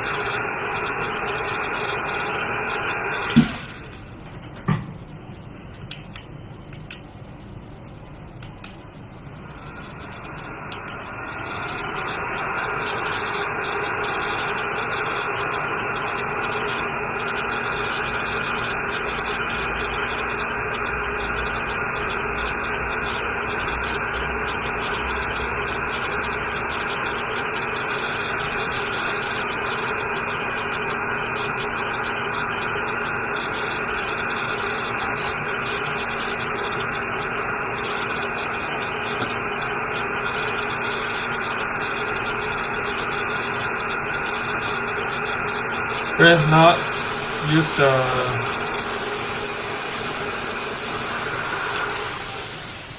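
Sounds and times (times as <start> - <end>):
hot air blower hissing: 0.0 - 4.2, 9.4 - 52.9.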